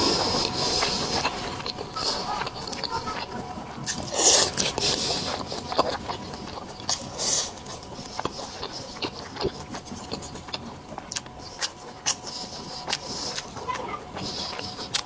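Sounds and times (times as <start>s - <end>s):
faint steady hum: 0.0s - 15.0s
wet chewing sounds: 0.0s - 15.0s.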